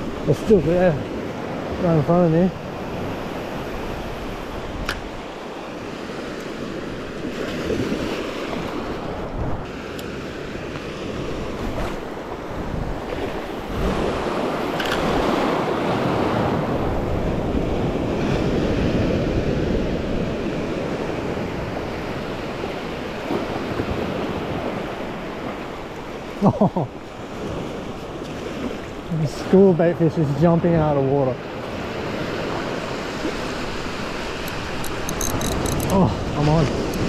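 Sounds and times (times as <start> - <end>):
wind buffeting microphone: 0.0 - 9.7, 11.0 - 26.0, 31.5 - 37.0
small waves lapping: 0.0 - 17.0, 20.8 - 37.0.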